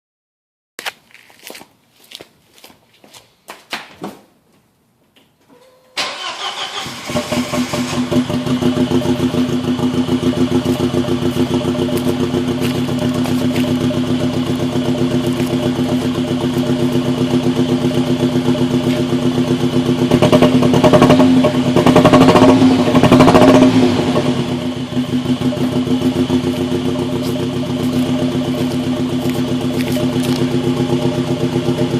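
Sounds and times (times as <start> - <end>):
car engine starting: 6.0 - 31.9
misfiring engine idling and revving: 6.2 - 31.9.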